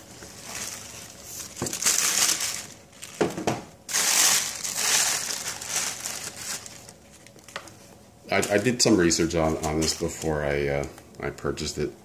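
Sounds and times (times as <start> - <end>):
tissue paper crinkling: 0.0 - 3.3, 3.9 - 10.4.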